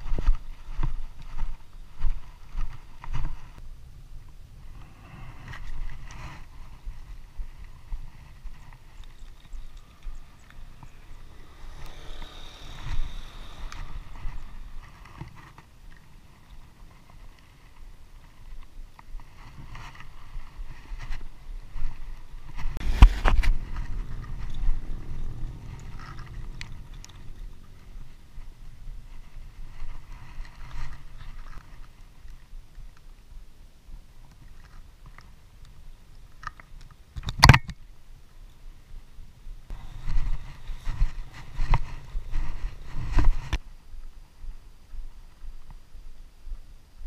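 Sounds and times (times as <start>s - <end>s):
steady low rumble: 0.0s - 19.3s, 20.0s - 34.2s, 38.8s - 46.7s.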